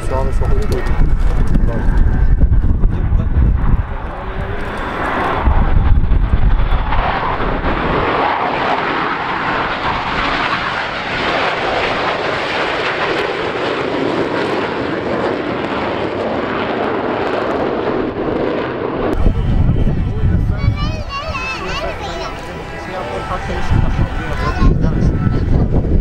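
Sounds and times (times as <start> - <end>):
jet aircraft engine roar: 0.0 - 26.0.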